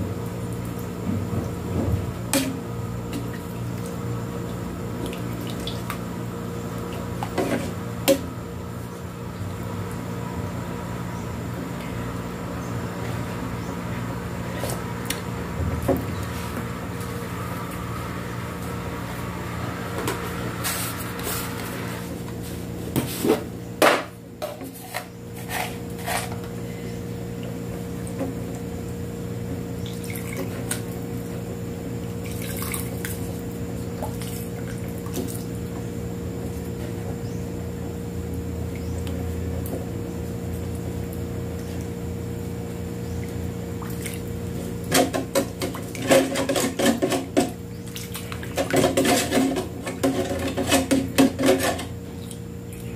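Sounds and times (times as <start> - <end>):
steady hum: 0.0 - 52.9.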